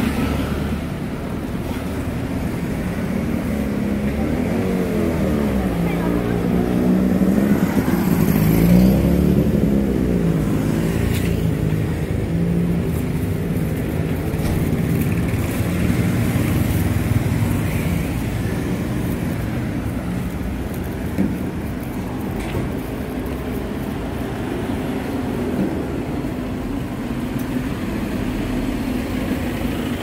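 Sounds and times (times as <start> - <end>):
passing vehicle engines: 0.0 - 30.0.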